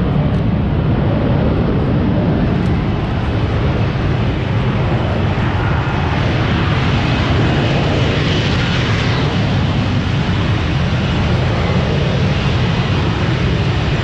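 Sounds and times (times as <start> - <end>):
jet engine rumble: 0.0 - 14.0.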